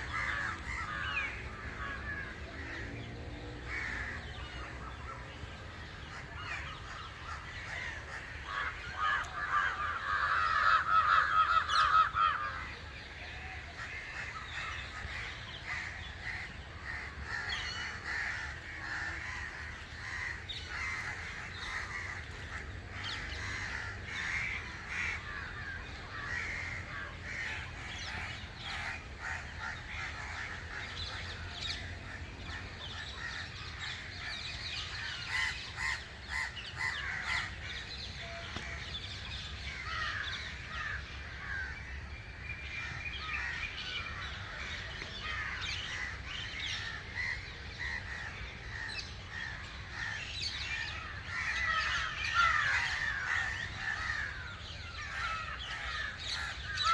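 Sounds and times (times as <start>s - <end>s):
birds chirping and calling: 0.0s - 56.9s.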